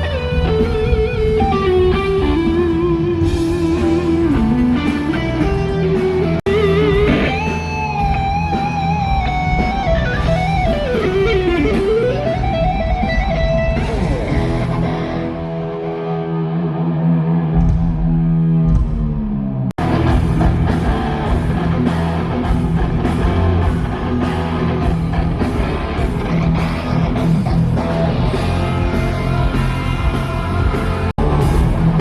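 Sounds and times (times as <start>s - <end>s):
bass and drum backing: 0.0s - 15.4s, 17.4s - 32.0s
electric guitar solo: 0.0s - 17.6s, 19.8s - 31.1s.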